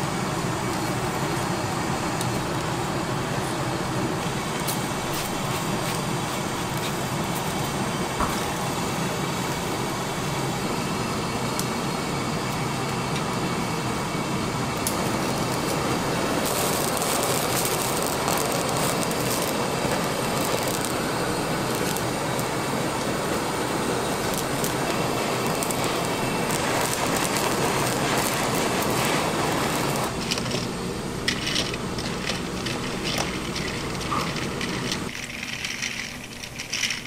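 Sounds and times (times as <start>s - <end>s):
blowtorch hissing: 0.0s - 37.0s
grill roaring and sizzling: 0.0s - 37.0s.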